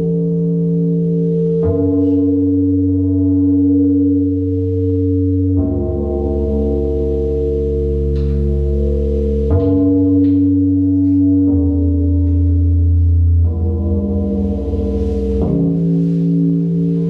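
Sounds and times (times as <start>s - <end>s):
deep synth bass: 0.0s - 17.0s
synthesizer drone chords: 0.0s - 17.0s.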